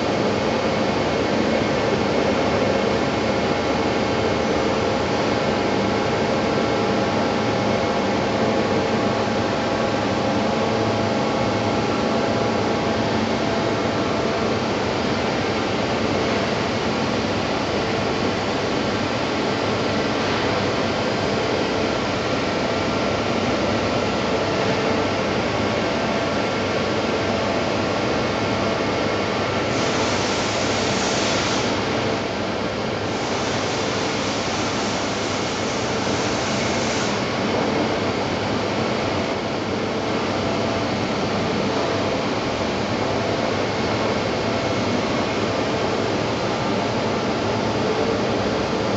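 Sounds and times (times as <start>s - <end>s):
machining centre humming: 0.0s - 48.9s.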